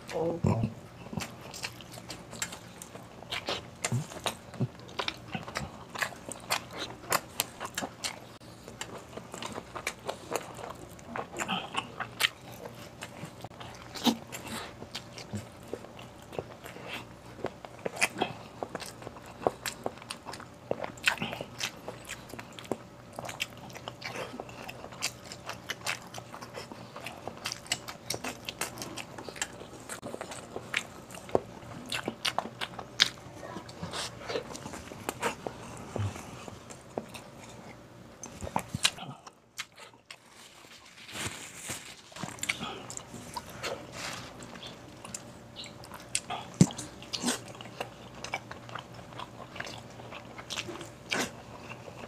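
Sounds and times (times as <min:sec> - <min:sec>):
person chewing and lip-smacking: 0:00.0 - 0:40.3, 0:42.1 - 0:52.0.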